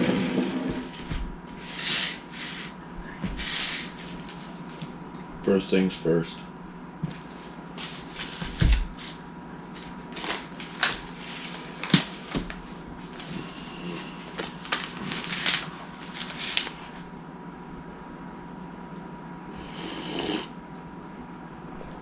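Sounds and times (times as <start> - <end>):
faint steady whine: 0.0 - 22.0.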